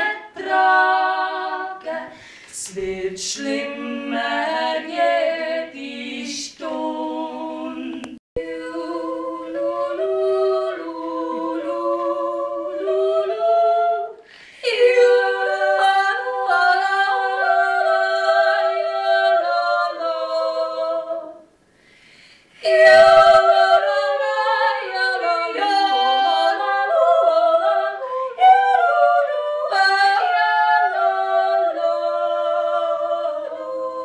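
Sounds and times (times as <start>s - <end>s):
two voices singing a cappella: 0.0s - 34.0s.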